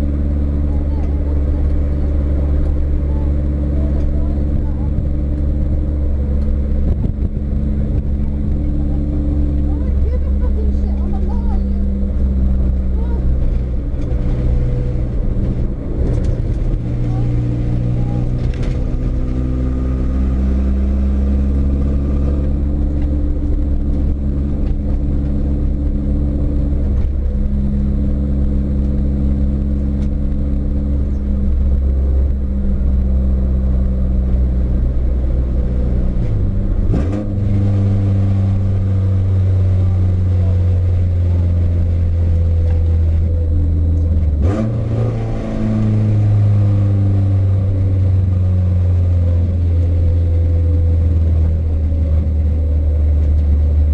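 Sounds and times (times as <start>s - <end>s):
car engine pulling hard: 0.0s - 53.9s.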